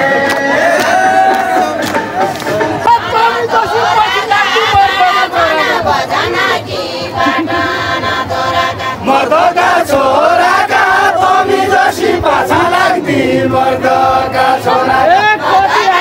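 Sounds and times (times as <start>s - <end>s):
crowd chanting: 0.0s - 16.0s.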